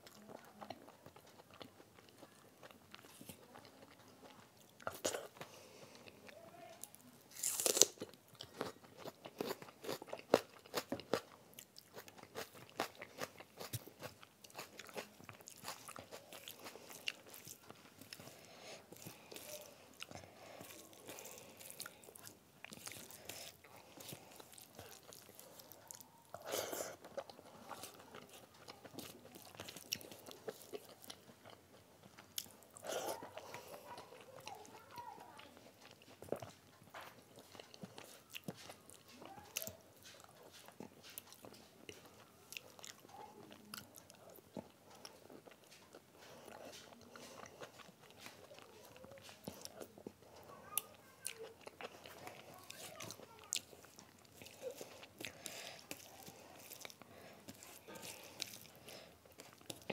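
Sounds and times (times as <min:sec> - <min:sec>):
chewing crunchy food: 0:00.0 - 0:59.9.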